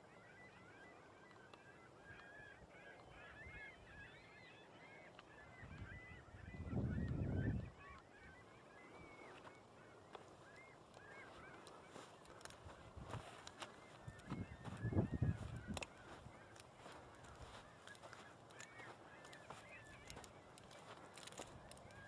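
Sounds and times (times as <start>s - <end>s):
geese honking: 0.0s - 22.0s.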